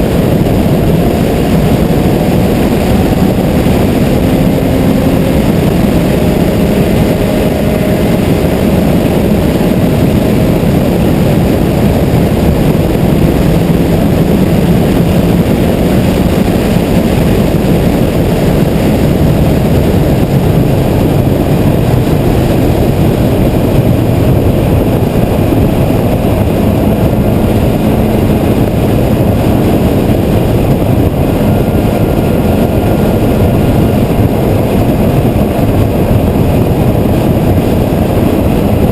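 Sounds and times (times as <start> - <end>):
car engine drone: 0.0 - 38.9
road and wind noise: 0.0 - 38.9.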